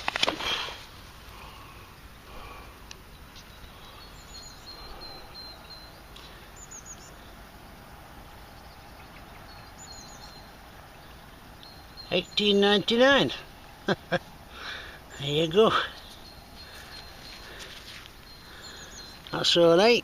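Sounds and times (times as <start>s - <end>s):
outdoor hiss: 0.0s - 20.0s
small bird chirping: 2.9s - 7.6s, 8.2s - 20.0s.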